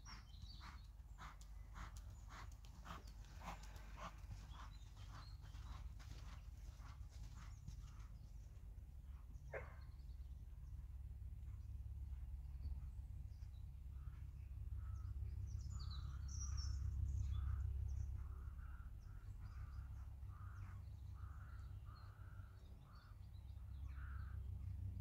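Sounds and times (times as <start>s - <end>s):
small birds chirping: 0.0s - 10.8s, 12.5s - 24.4s.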